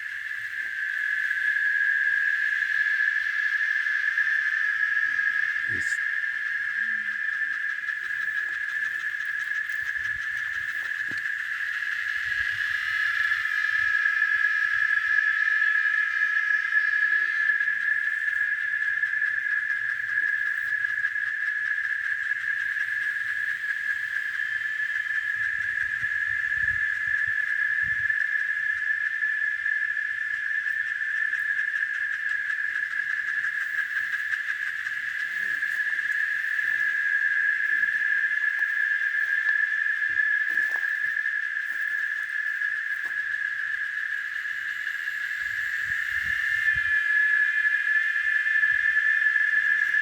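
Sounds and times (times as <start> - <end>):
cicadas buzzing: 0.0 - 50.0.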